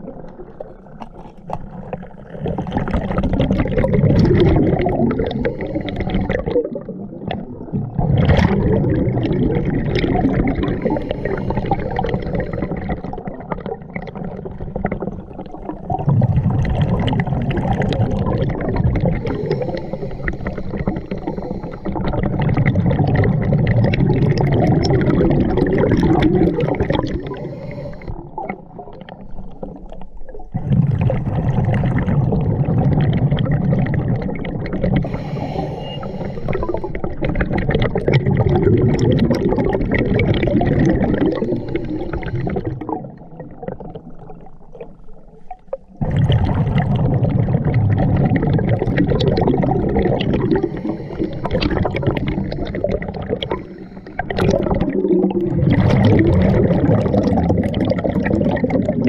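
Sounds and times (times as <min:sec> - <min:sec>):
exhaled breath bubbling underwater: 0:00.0 - 0:59.0.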